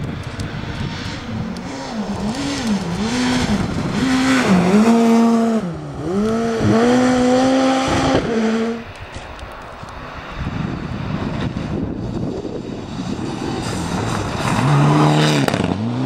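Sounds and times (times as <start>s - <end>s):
rally car engine revving: 0.0s - 8.9s, 10.8s - 16.0s.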